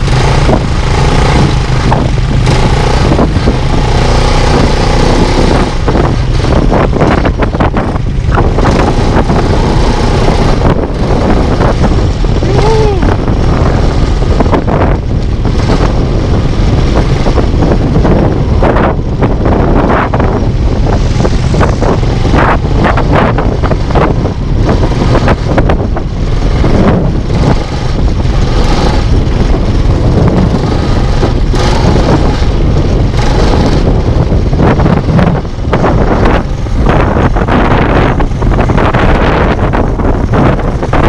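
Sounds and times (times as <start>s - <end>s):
engine rumbling: 0.0s - 41.0s
wind buffeting microphone: 0.0s - 41.0s.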